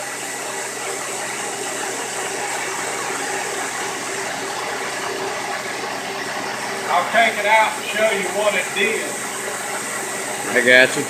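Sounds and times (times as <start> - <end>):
coolant mist hissing: 0.0 - 11.0.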